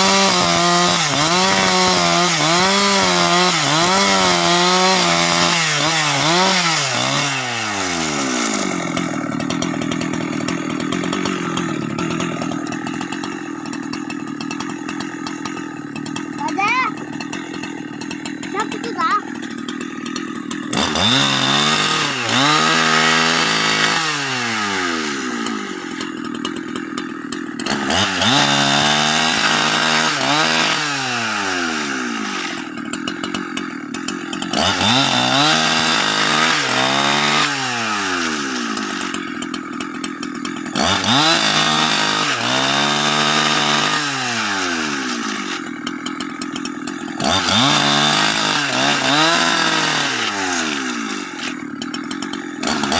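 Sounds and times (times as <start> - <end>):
chainsaw revving and idling: 0.0 - 52.9.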